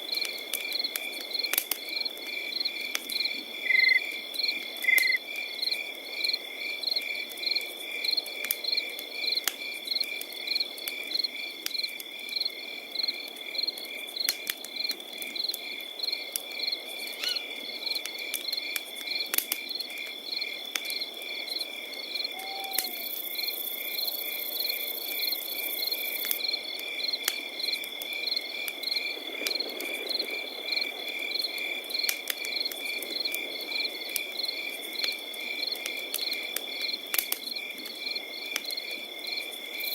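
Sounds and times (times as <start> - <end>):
campfire crackling: 0.0 - 39.9
crickets chirping: 0.1 - 39.9.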